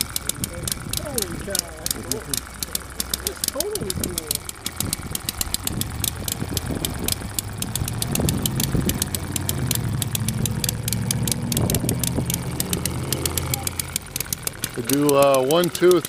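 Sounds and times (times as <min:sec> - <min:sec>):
model engine running: 0:00.0 - 0:16.0.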